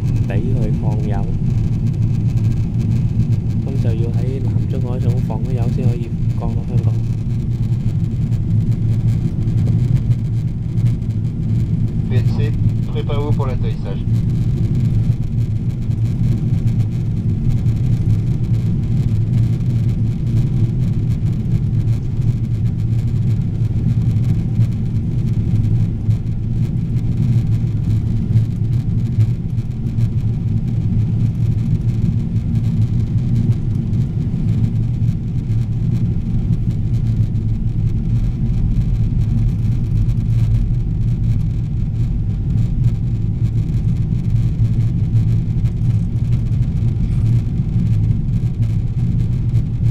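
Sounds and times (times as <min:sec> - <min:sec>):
airliner cabin engine drone: 0:00.0 - 0:49.9.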